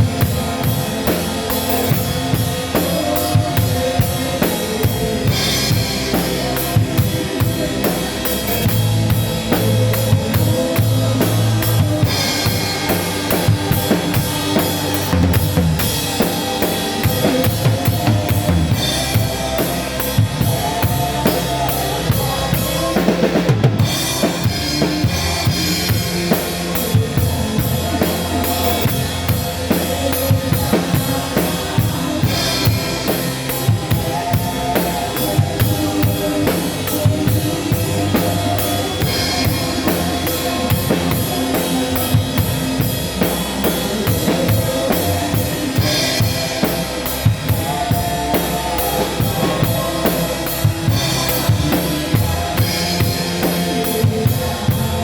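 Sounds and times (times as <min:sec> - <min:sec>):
drum kit steady beat: 0:00.0 - 0:55.0
live band music: 0:00.0 - 0:55.0.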